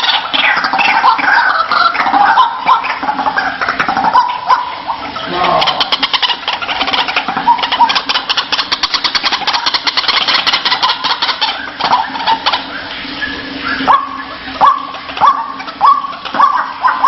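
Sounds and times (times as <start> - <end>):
waterhen rattling calls: 0.0 - 17.0.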